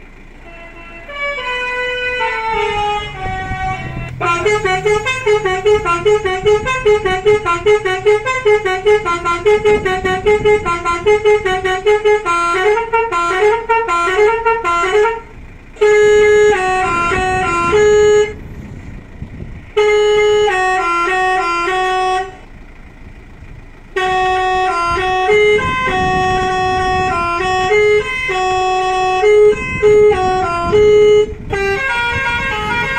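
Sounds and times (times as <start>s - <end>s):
musical horn playing a tune: 0.4s - 18.5s, 19.7s - 22.4s, 23.9s - 32.9s.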